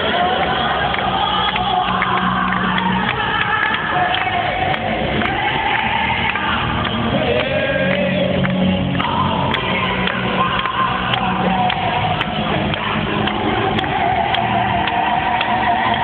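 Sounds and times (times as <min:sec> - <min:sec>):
person singing long sliding notes: 0:00.0 - 0:16.0.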